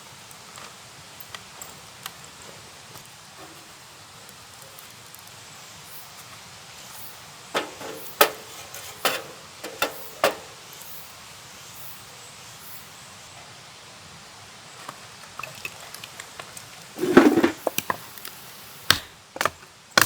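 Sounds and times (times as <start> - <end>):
faint steady background noise: 0.0 - 20.0.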